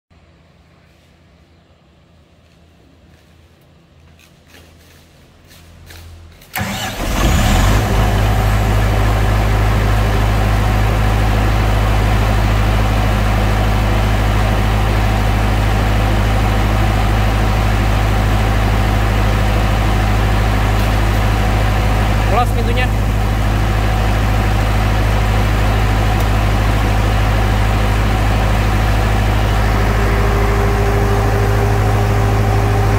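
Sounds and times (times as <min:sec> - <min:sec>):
diesel generator humming: 0:00.2 - 0:32.9
diesel generator cranking: 0:05.8 - 0:32.9.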